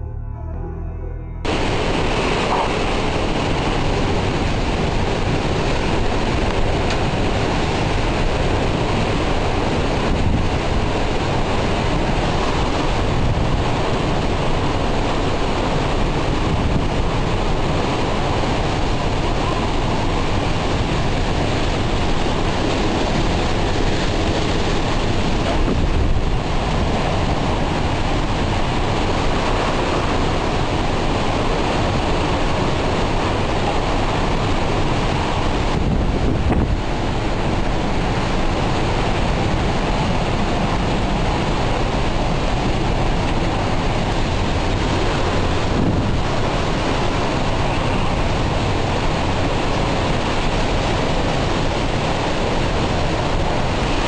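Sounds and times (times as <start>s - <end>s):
hurricane wind roaring: 1.4s - 54.0s.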